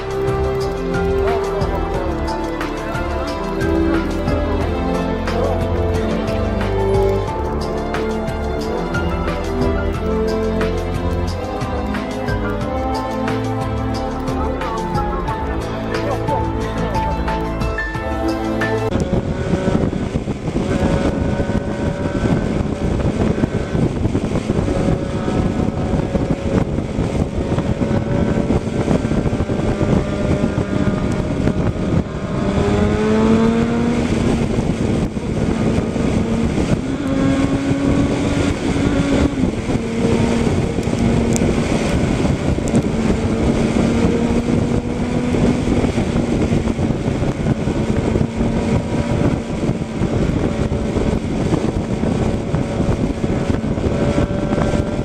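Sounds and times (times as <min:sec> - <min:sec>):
motorcycle engine accelerating: 0:00.0 - 0:55.0
wind rush: 0:00.0 - 0:55.0.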